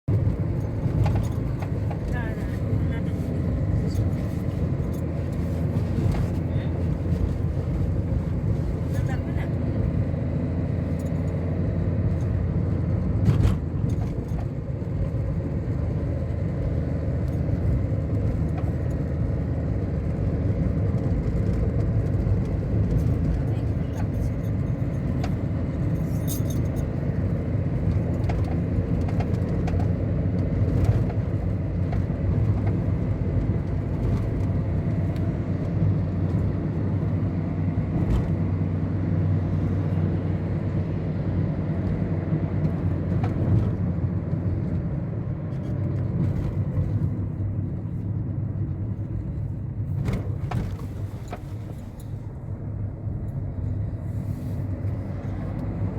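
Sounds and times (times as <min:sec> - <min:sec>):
motor vehicle rumble: 0:00.0 - 0:55.9.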